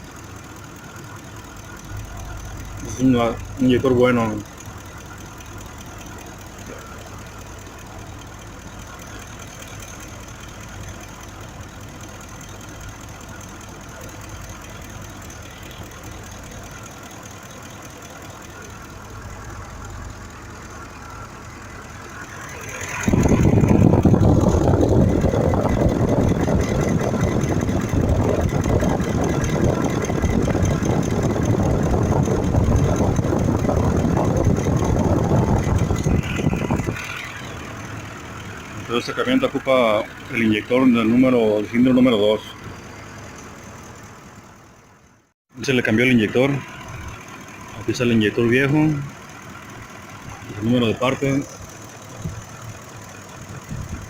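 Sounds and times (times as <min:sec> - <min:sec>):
loud rough running noise: 0:00.0 - 0:45.3, 0:46.0 - 0:54.0
engine idling with misfire: 0:00.0 - 0:54.0.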